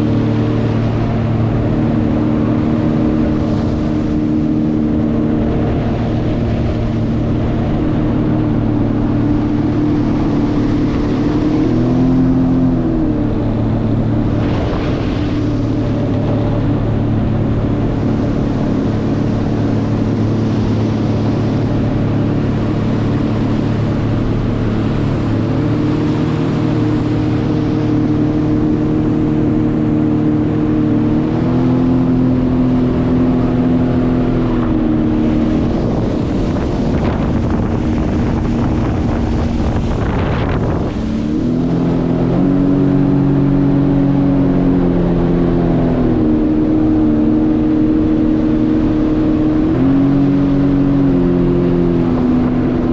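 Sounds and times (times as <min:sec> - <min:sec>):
jet ski engine running: 0:00.0 - 0:52.9.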